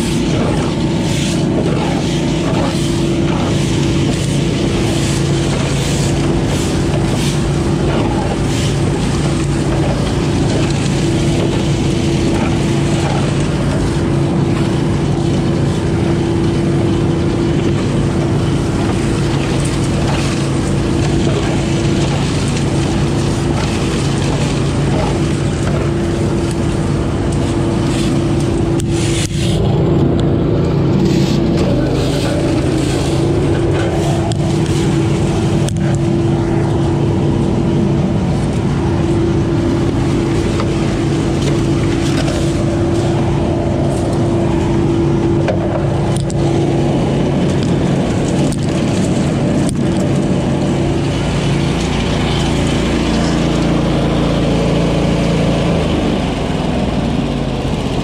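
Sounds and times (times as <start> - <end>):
leaf loader engine droning: 0.0 - 58.0
leaves rushing through hose: 0.0 - 58.0.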